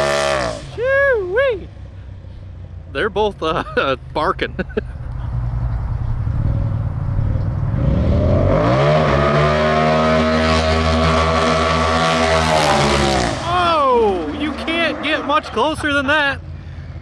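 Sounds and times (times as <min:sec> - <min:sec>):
engines idling and revving: 0:00.0 - 0:17.0.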